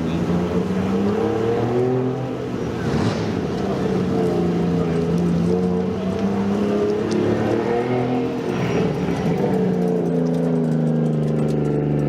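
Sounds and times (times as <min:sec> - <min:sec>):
car engine running: 0:02.3 - 0:12.0.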